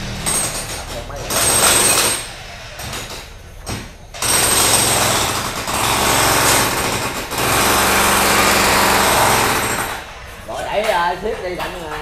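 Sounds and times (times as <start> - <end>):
machine running with hard rattle: 0.0 - 10.4.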